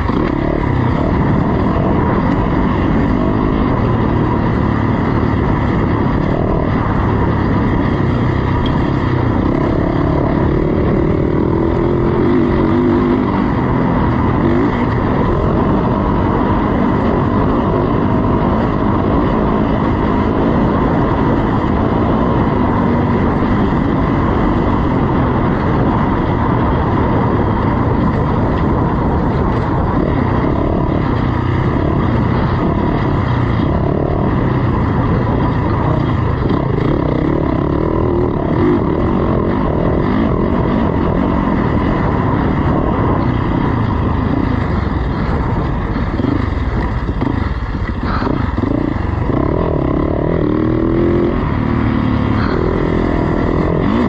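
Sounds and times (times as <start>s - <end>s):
dense rumble: 0.0s - 54.0s
dirt bike engine revving: 0.0s - 54.0s.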